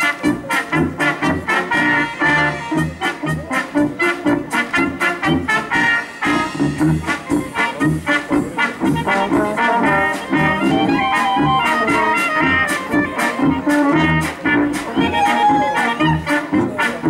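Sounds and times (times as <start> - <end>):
folk brass band dance music: 0.0 - 17.0.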